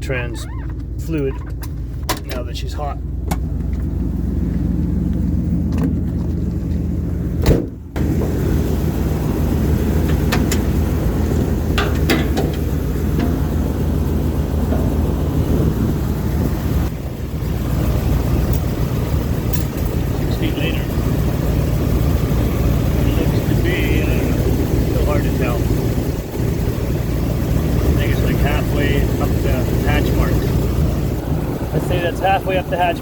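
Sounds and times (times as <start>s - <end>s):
engine idling hum: 0.0s - 33.0s.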